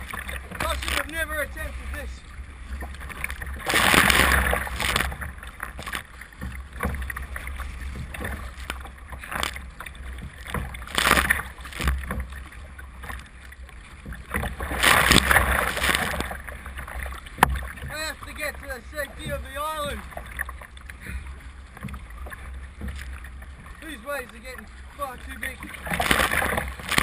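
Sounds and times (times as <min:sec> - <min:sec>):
kayak paddle strokes: 0:00.0 - 0:27.0
waves splashing over bow: 0:00.0 - 0:27.0.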